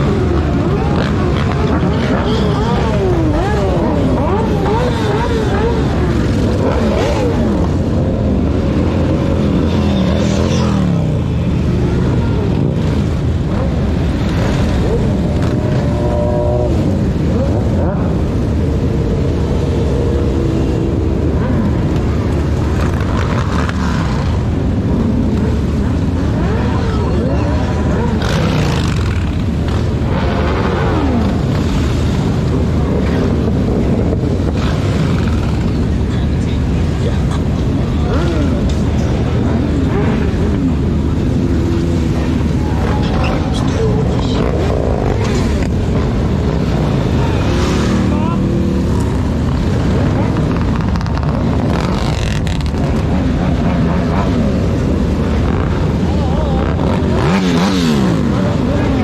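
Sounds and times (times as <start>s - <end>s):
heavy traffic rumble: 0.0s - 59.0s
motorcycle engines revving: 0.0s - 59.0s
wind noise on microphone: 10.9s - 59.0s.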